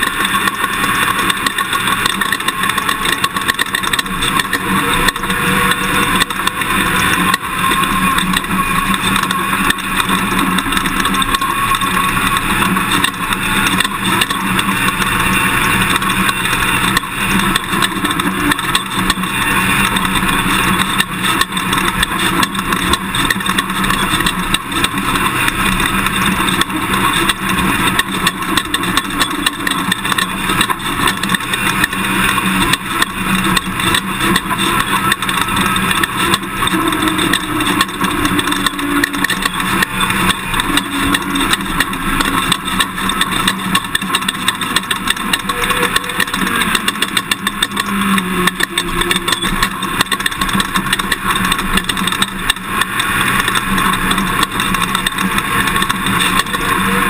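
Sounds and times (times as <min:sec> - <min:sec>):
rattling and knocks: 0:00.0 - 0:57.0
truck engine and tyre noise: 0:00.0 - 0:57.0.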